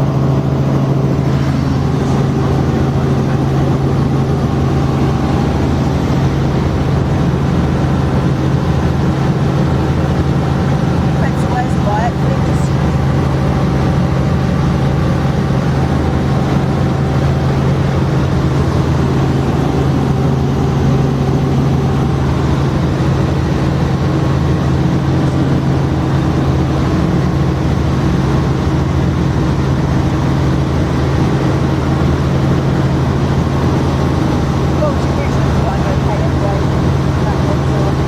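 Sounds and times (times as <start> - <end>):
helicopter engine and rotor drone: 0.0 - 38.0.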